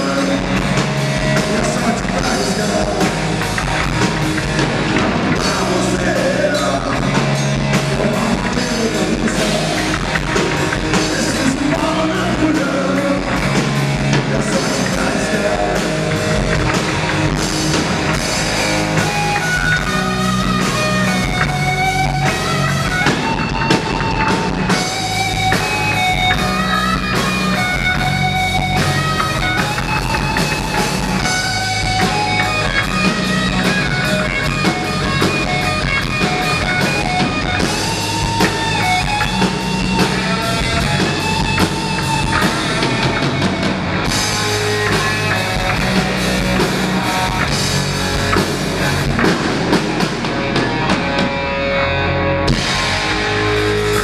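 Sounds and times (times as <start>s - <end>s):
drum kit: 0.0s - 51.8s, 52.4s - 54.0s
electric bass: 0.0s - 54.0s
electric guitar: 0.0s - 54.0s.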